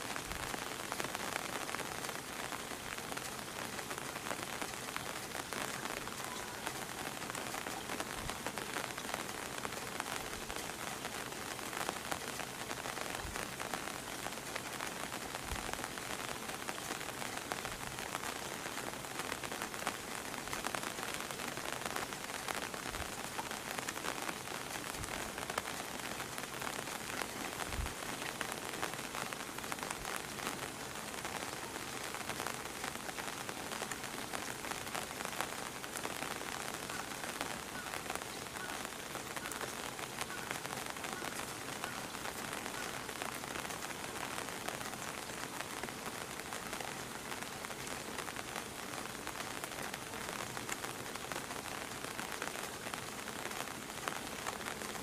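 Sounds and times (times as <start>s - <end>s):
rain on hard surfaces: 0.0s - 55.0s.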